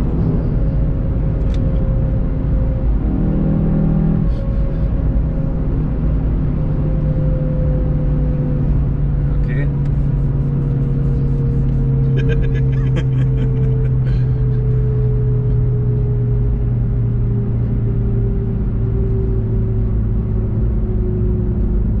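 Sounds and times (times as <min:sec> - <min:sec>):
car engine droning inside cabin: 0:00.0 - 0:22.0
road and tyre rumble: 0:00.0 - 0:22.0.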